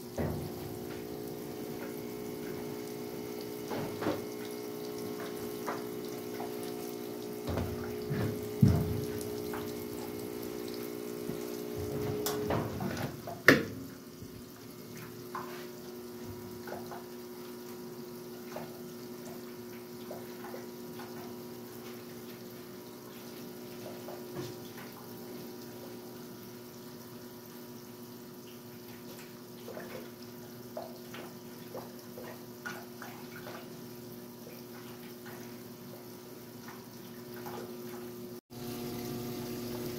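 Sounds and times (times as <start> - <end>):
washing machine humming: 0.0 - 39.9
water flowing into machine: 0.0 - 39.9.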